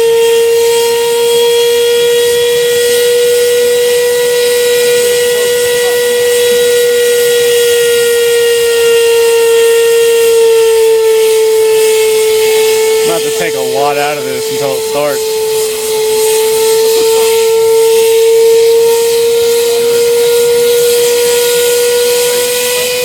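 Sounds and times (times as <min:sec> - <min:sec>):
turbine whine: 0:00.0 - 0:23.0.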